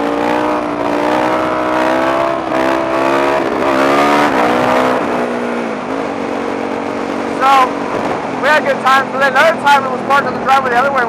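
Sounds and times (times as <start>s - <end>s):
wind rushing over microphone: 0.0s - 10.5s
motorcycle engine under throttle: 0.0s - 11.0s.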